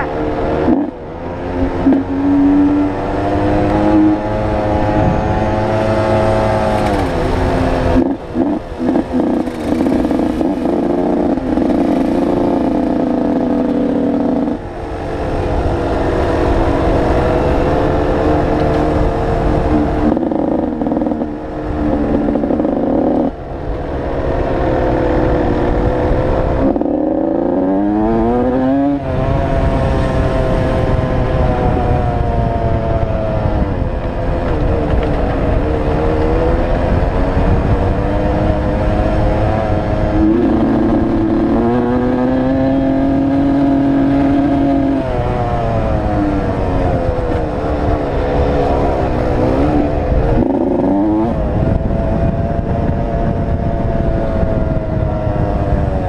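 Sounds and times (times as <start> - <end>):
dirt bike engine revving: 0.0 - 23.4, 24.2 - 32.3, 34.5 - 53.3.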